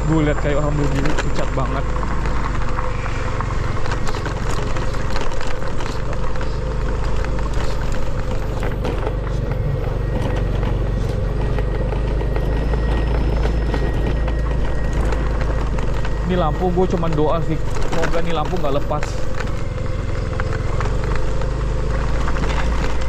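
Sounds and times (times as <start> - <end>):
small motorbike engine: 0.0 - 23.0.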